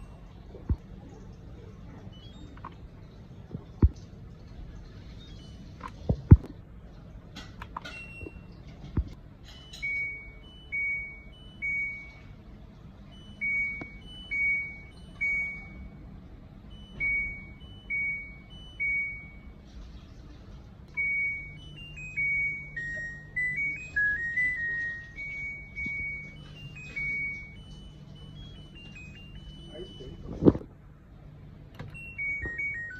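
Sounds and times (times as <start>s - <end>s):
low hum: 0.0s - 32.9s
washing machine beeping: 0.0s - 32.9s
washing machine tune: 0.0s - 32.9s.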